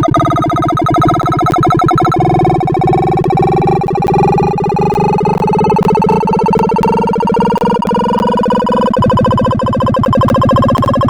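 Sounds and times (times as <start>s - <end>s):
rapid electronic beeps: 0.0s - 11.0s.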